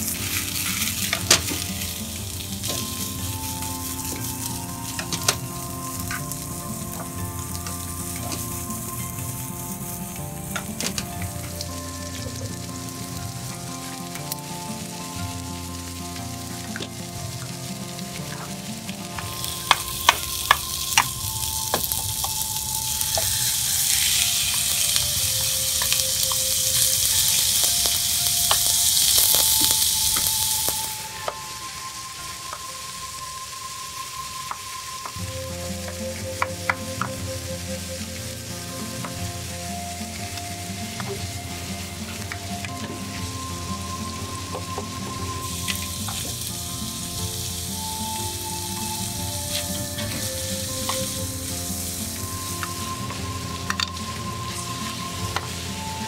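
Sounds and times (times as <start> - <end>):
food sizzling in a frying pan: 0.0 - 56.0
soft background music: 0.0 - 56.0.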